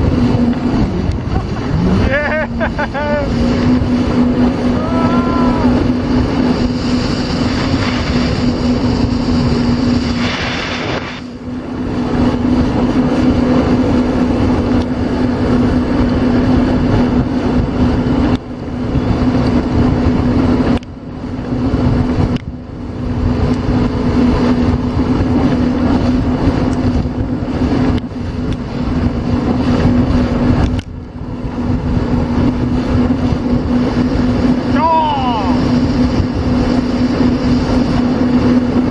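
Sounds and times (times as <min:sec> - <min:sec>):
boat engine running at speed: 0:00.0 - 0:38.9
rushing wind: 0:00.0 - 0:38.9
water noise: 0:00.0 - 0:38.9.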